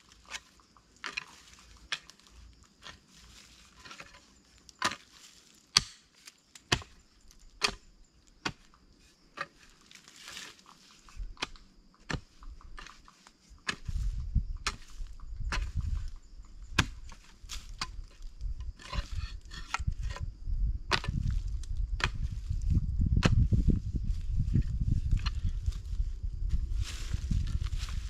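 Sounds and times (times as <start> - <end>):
hoe chopping into dry soil: 0.1 - 20.2, 20.9 - 23.8.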